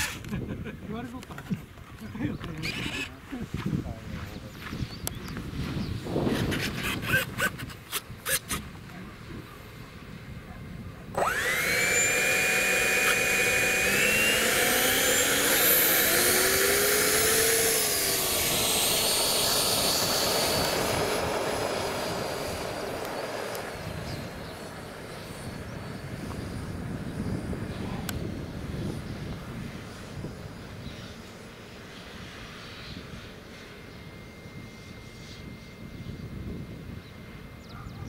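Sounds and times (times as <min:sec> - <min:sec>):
electric ducted fan whine: 0:00.0 - 0:38.0.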